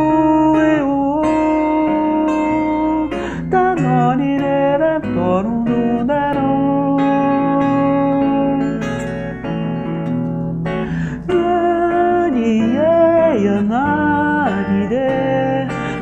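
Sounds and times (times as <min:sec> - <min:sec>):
man singing wordless melody: 0:00.0 - 0:09.1, 0:10.9 - 0:16.0
acoustic guitar plucked: 0:00.0 - 0:16.0.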